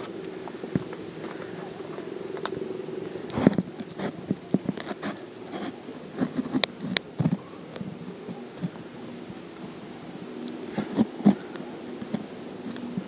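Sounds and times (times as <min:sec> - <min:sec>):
faint steady hum: 0:00.0 - 0:13.0
sharp clicks and rustles: 0:00.0 - 0:13.0.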